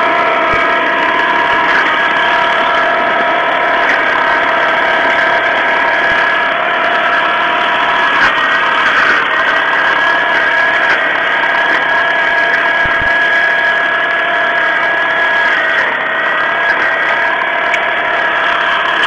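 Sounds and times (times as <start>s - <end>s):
high whine: 0.0s - 19.0s
tractor diesel engine running: 0.0s - 19.0s.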